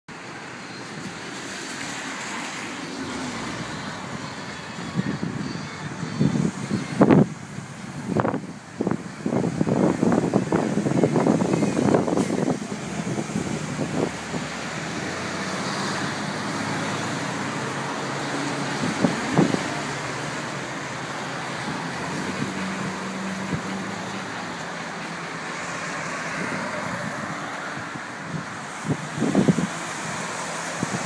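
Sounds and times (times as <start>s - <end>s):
passing cars: 0.1s - 31.0s.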